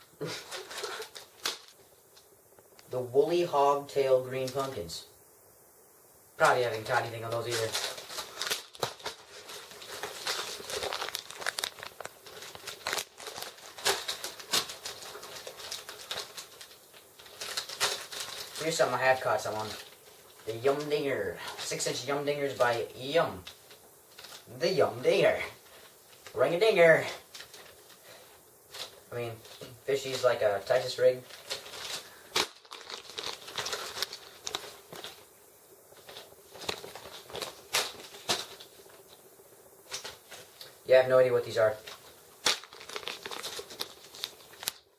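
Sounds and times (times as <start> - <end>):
plastic bags crinkling: 0.2 - 2.2, 6.6 - 40.9, 41.5 - 44.9.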